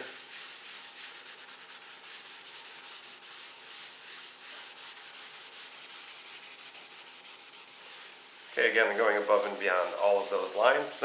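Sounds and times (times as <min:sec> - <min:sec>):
towel rubbing on paper: 0:00.0 - 0:11.0.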